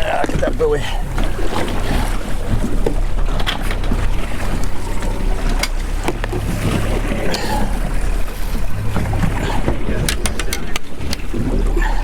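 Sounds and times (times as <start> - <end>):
boat engine humming: 0.0 - 12.0
water noise: 0.0 - 12.0
wind: 0.0 - 12.0.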